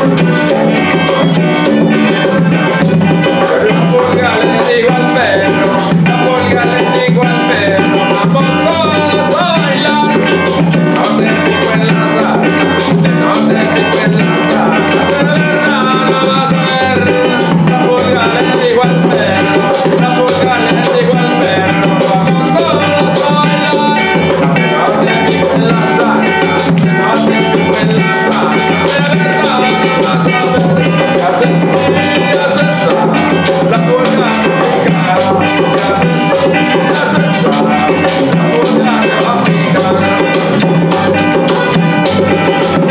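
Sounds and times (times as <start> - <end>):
acoustic guitar strumming: 0.0 - 42.9
electric bass line: 0.0 - 42.9
hand percussion: 0.0 - 42.9
man singing: 0.0 - 42.9.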